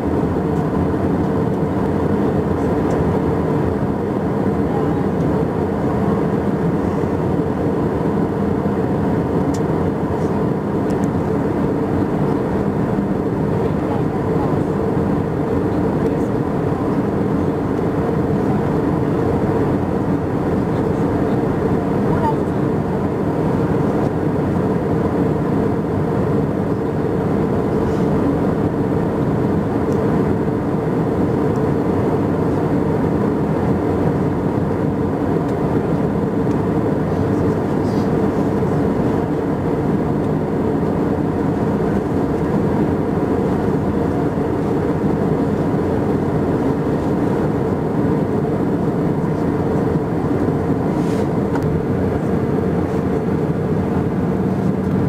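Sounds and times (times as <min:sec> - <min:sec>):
jet engine and airflow drone: 0:00.0 - 0:55.0.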